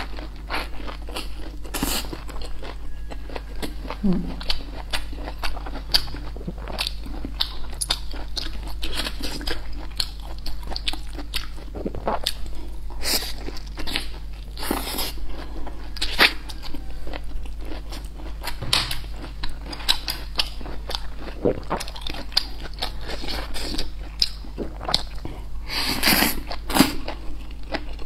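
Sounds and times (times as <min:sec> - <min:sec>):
person chewing crunchy food: 0:00.0 - 0:28.0.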